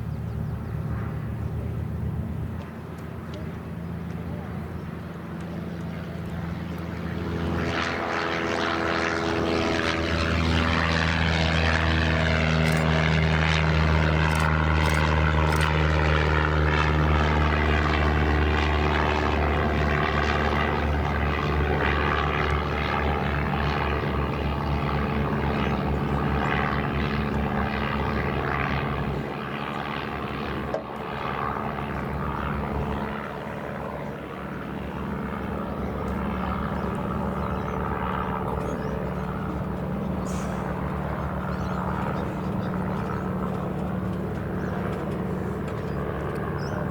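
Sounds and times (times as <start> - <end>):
light aircraft engine droning: 0.0 - 46.9.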